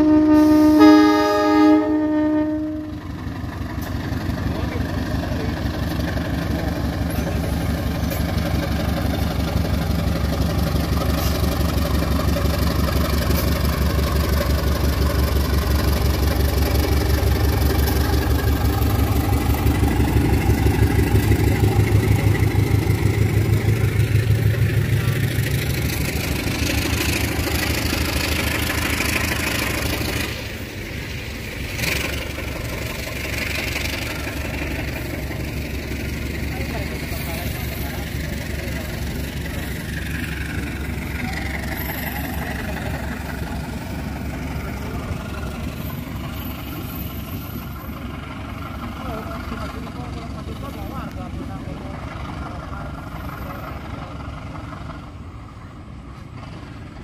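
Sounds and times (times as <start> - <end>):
diesel locomotive engine throbbing: 0.0 - 57.0
train wheels rushing on rails: 0.0 - 57.0.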